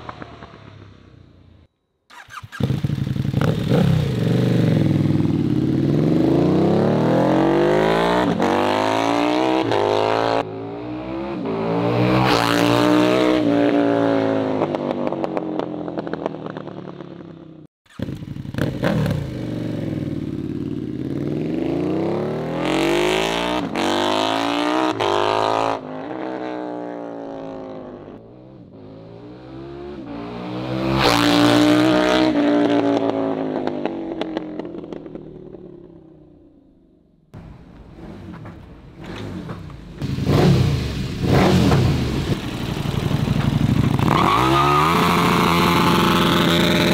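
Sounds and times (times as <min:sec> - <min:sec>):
motorcycle engine accelerating: 0:00.0 - 0:36.8, 0:37.4 - 0:46.9.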